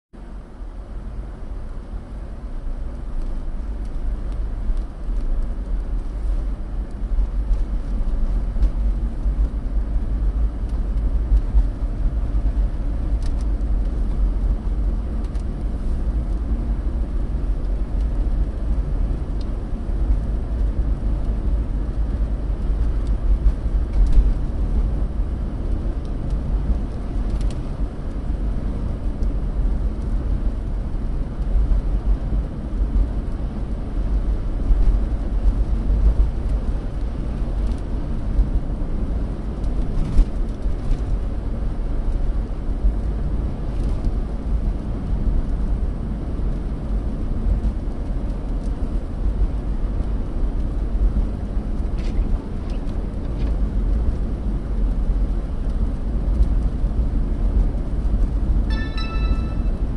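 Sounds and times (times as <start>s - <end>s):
low rumble of tyres and engine: 0.1s - 59.9s.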